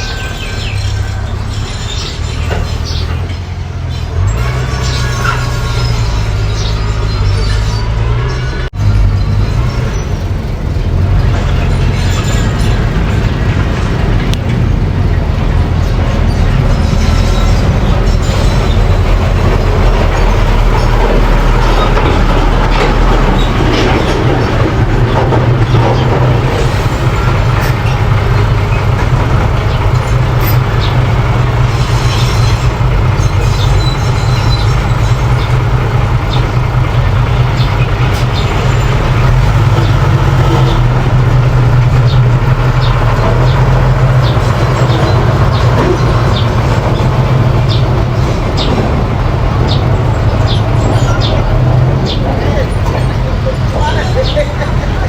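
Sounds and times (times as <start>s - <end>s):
bulldozer engine running: 0.0s - 55.0s.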